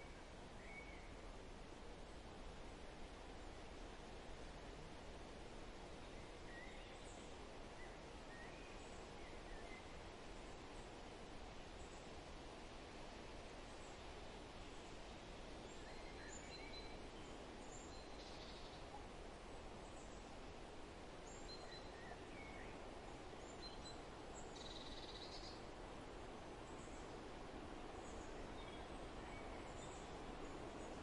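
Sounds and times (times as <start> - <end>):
low hiss: 0.0 - 31.0.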